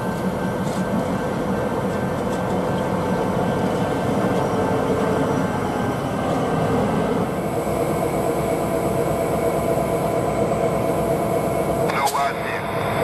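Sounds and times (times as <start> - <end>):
locomotive engine rumble: 0.0 - 13.0.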